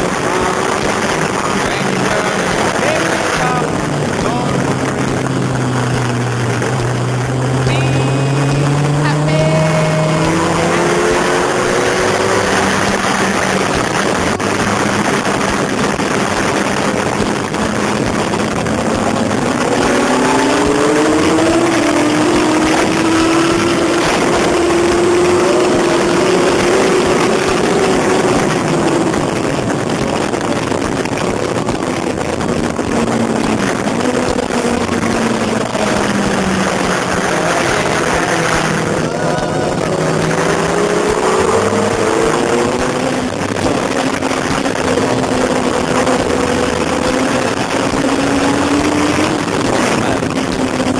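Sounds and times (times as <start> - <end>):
heavy wind noise: 0.0 - 50.9
motorcycle engine revving: 0.0 - 50.9.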